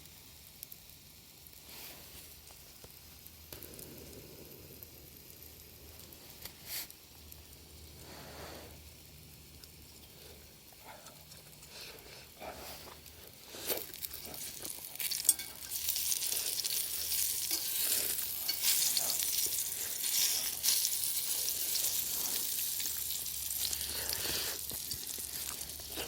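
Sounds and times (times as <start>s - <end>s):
food sizzling over fire: 0.0s - 26.0s.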